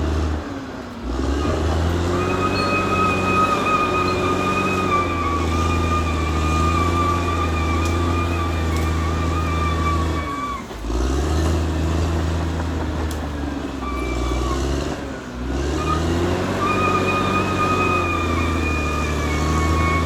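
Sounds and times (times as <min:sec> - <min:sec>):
bulldozer diesel engine whining: 0:00.0 - 0:20.0.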